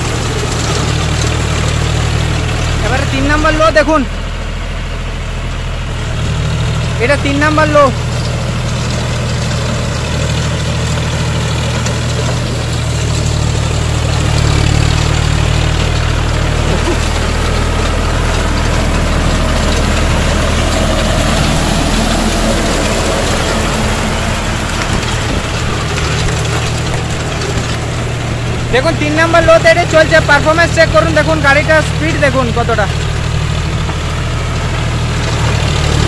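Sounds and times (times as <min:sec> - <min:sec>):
diesel tractor engine under load: 0:00.0 - 0:36.0.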